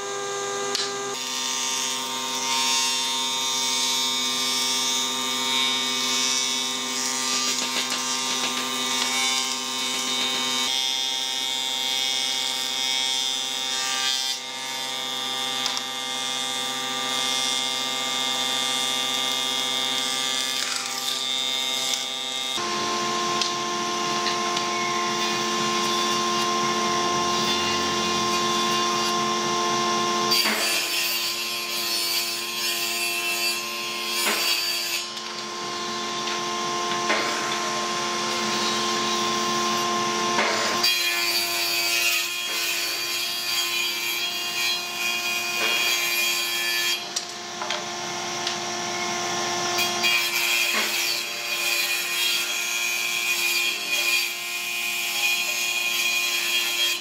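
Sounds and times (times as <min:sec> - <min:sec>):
woodworking machine cutting boards: 0:00.0 - 0:57.0.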